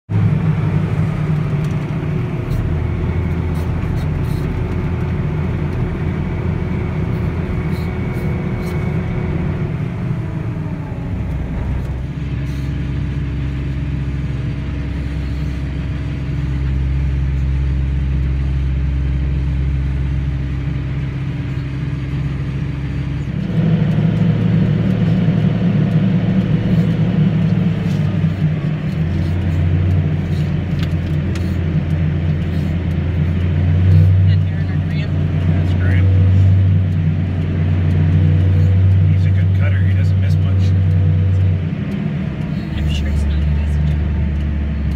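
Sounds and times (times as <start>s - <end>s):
farm machinery engines droning: 0.1s - 44.9s.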